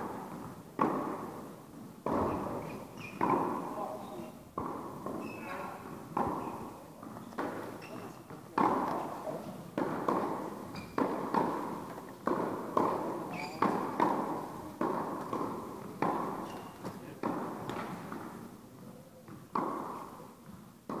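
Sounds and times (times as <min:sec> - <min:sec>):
tennis balls struck with rackets: 0:00.0 - 0:21.0.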